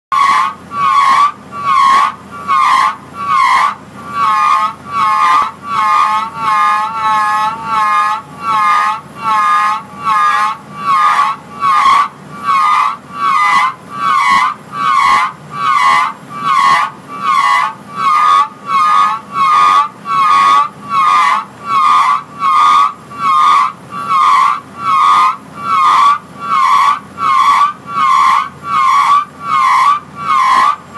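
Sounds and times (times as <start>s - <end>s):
brake squealing: 0.1s - 30.9s.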